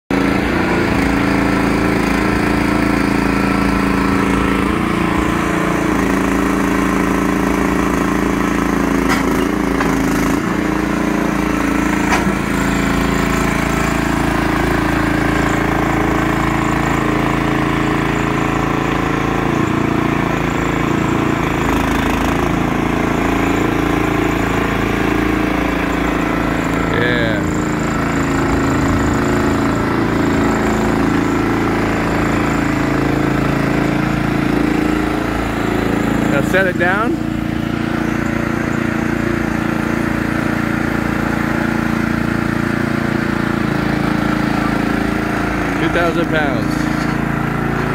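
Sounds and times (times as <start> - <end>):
small gas engine running: 0.1 - 47.9.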